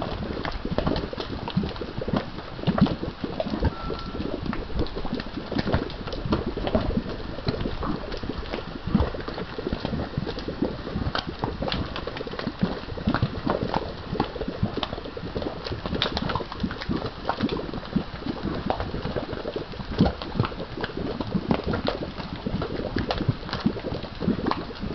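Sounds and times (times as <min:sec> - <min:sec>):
mud pot bubbling: 0:00.0 - 0:24.9.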